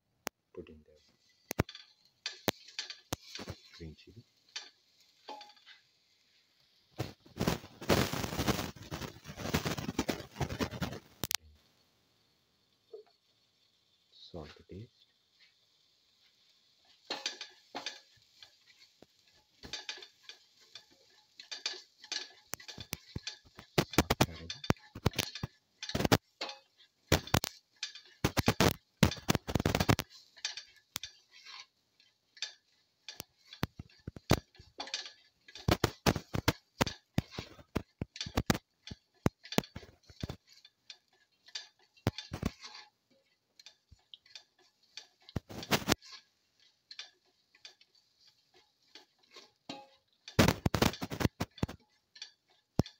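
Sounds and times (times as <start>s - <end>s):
spatula scraping a metal pan: 1.0s - 11.2s, 14.9s - 52.9s.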